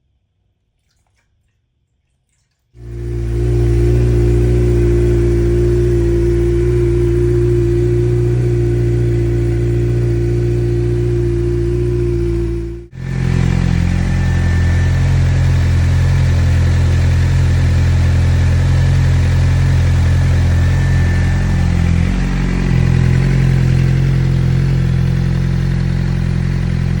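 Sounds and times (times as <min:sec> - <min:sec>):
motorcycle engine idling: 0:02.8 - 0:27.0.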